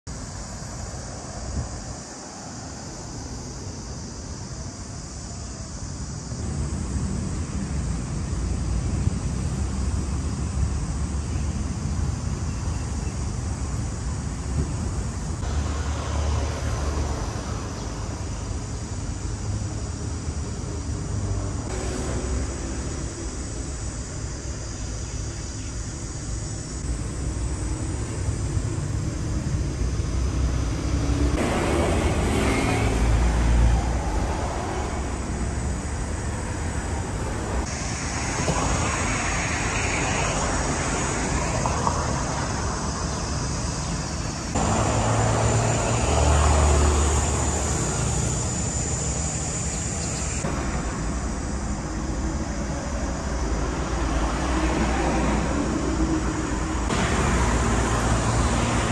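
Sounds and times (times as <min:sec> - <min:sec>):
traffic rumble: 0:00.0 - 0:58.9.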